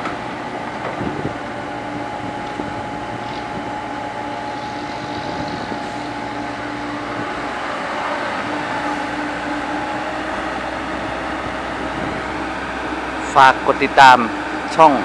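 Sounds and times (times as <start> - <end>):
constant whine: 0.0 - 15.0
excavator diesel engine running: 0.0 - 15.0.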